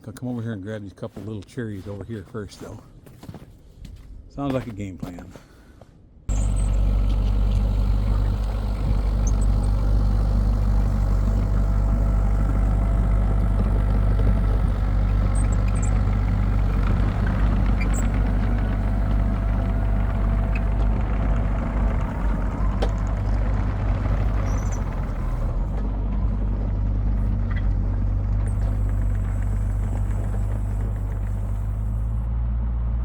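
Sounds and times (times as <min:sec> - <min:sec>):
diesel engine running steadily: 0:06.3 - 0:33.0.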